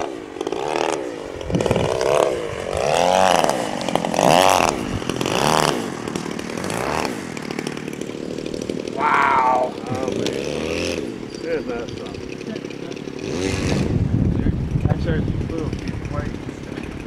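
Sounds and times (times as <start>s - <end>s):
model airplane motor and propeller: 0.0s - 17.0s.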